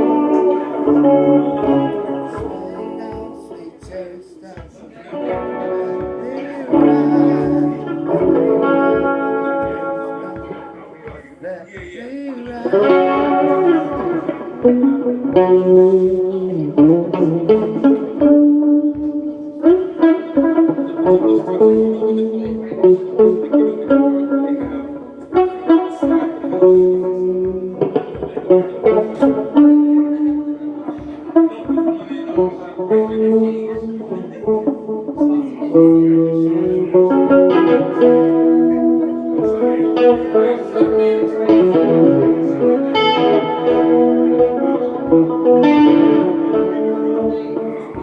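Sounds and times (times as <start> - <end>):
plucked guitar notes and chords: 0.0 - 48.0.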